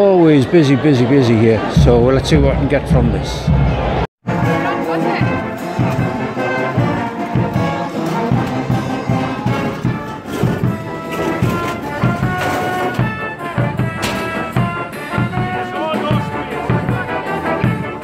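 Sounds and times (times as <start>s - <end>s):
brass band music: 1.4s - 18.0s.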